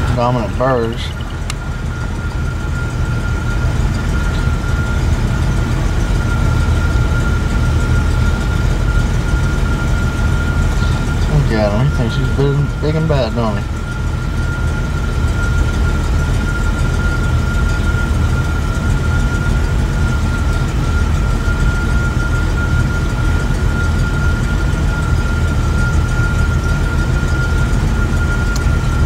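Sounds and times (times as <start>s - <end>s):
steady high-pitched tone: 0.0s - 29.0s
truck engine low rumble: 0.0s - 29.0s.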